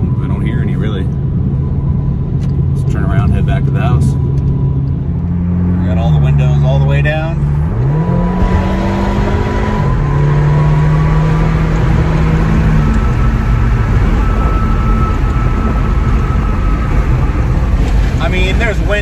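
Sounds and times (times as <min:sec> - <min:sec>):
car engine droning: 0:00.0 - 0:19.0
road and wind noise: 0:00.0 - 0:19.0.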